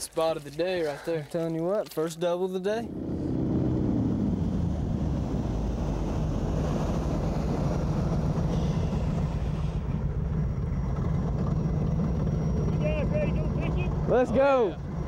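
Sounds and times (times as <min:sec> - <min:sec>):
airboat engine and propeller drone: 0:02.8 - 0:15.0.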